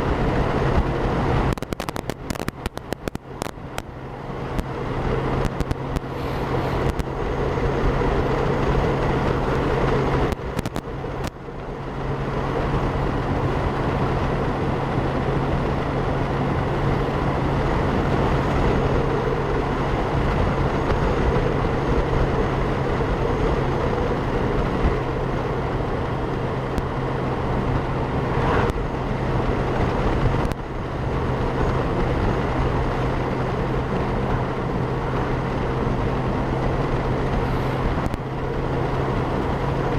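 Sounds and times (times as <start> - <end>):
motorcycle engine hum: 0.0 - 39.9
wind rushing over microphone: 0.0 - 39.9.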